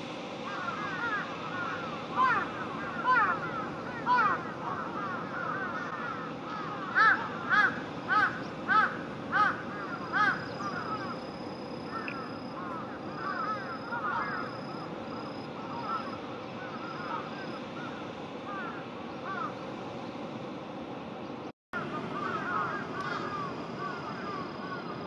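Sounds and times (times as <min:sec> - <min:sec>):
crow cawing: 0:00.4 - 0:11.2, 0:11.9 - 0:14.8, 0:15.6 - 0:19.6, 0:21.8 - 0:25.0.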